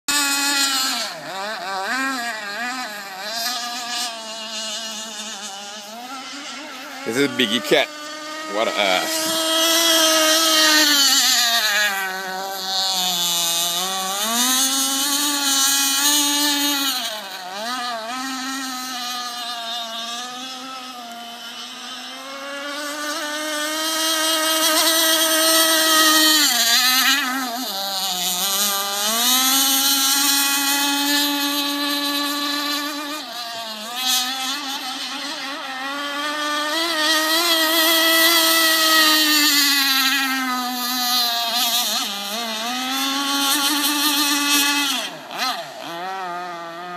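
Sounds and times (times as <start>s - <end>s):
model boat motor whining: 0.0s - 46.9s.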